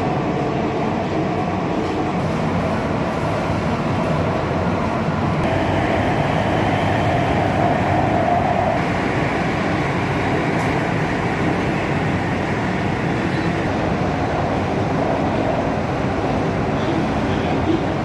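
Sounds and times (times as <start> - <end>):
train rumble and rushing: 0.0 - 18.0.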